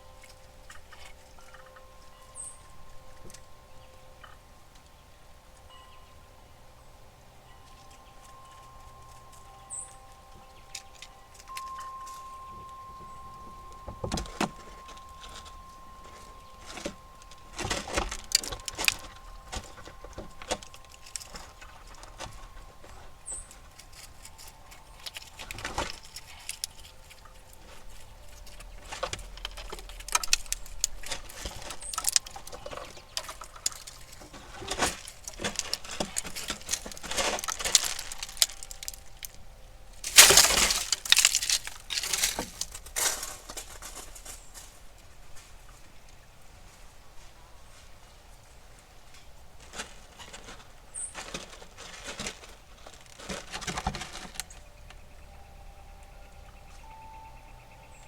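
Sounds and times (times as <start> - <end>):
squirrels scratching and cracking nuts: 0.0 - 58.0.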